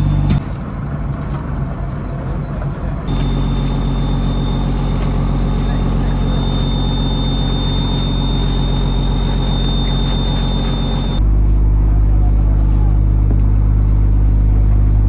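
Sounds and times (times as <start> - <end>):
boat diesel engine droning: 0.0 - 15.0.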